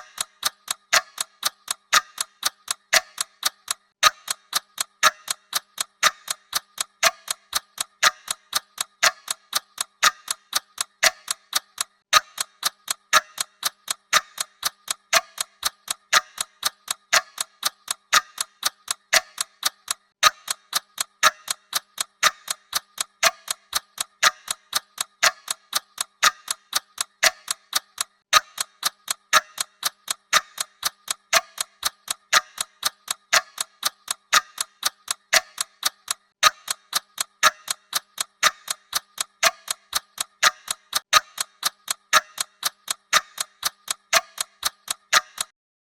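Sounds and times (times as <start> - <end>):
clock ticking: 0.0 - 45.6.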